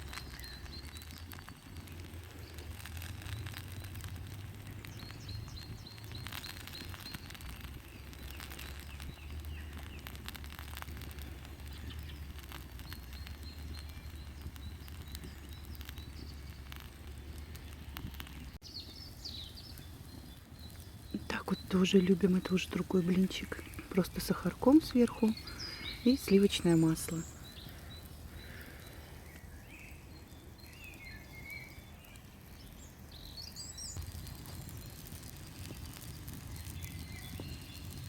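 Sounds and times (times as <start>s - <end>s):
birds chirping: 0.0s - 38.0s
campfire crackling: 0.0s - 38.0s.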